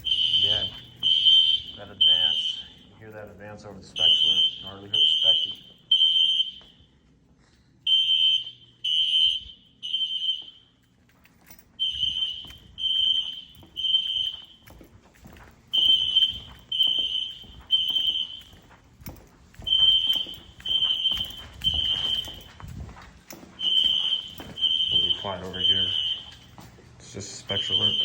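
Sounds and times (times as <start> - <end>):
fire alarm horn beeping: 0.0 - 7.0, 7.8 - 28.0.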